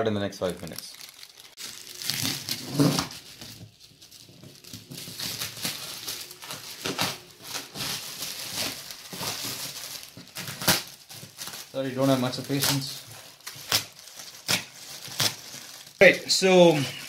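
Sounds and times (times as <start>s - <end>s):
plastic packaging crinkling: 0.4s - 17.0s.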